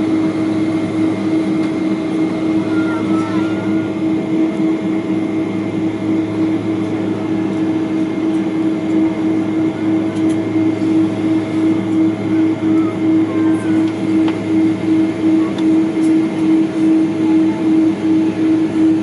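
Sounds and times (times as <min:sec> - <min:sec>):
airliner cabin hum: 0:00.0 - 0:19.0.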